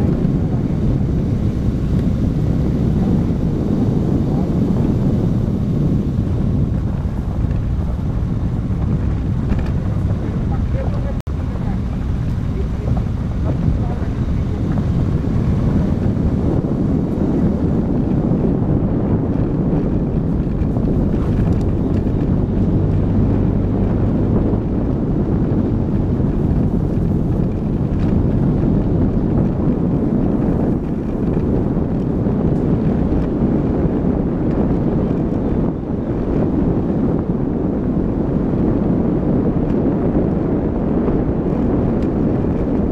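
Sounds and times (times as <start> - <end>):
car rumbling on gravel: 0.0 - 42.9
wind buffeting microphone: 0.0 - 42.9.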